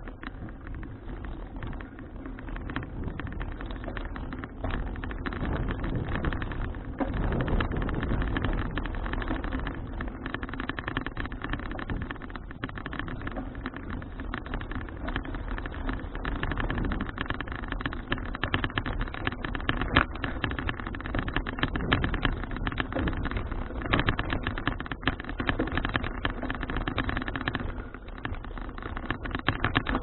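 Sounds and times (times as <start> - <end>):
bicycle rattles and knocks: 0.0 - 30.0
wind and tyres rumbling: 0.0 - 30.0.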